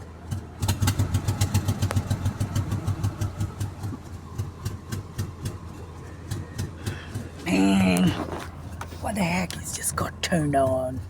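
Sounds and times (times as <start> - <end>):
car engine idling rough: 0.0 - 11.0.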